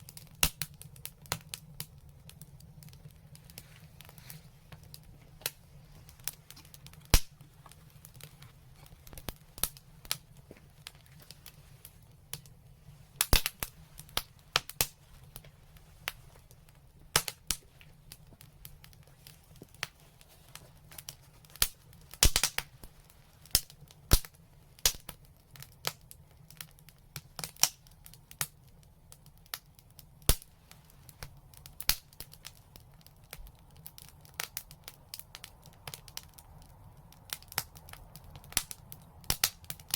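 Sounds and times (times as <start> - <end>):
sharp fire pops: 0.0 - 28.5, 29.2 - 39.9
wood fire crackling: 0.0 - 39.9.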